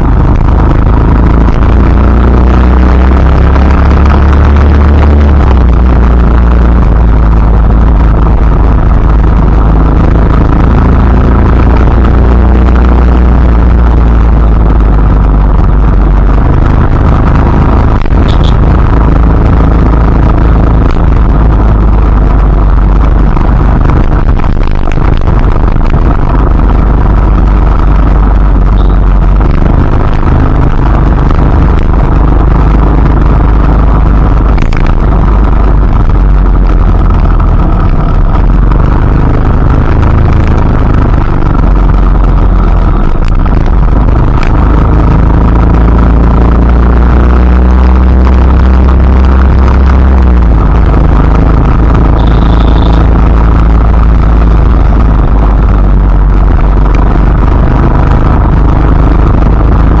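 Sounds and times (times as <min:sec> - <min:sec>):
loud low rumbling noise: 0:00.0 - 1:00.0.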